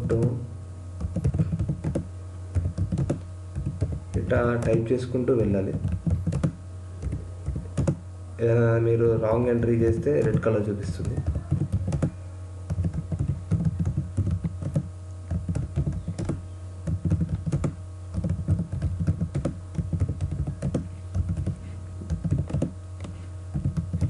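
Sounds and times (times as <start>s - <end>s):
steady low hum: 0.0s - 24.0s
keyboard typing clicks: 1.0s - 4.8s, 5.7s - 8.0s, 10.2s - 24.0s.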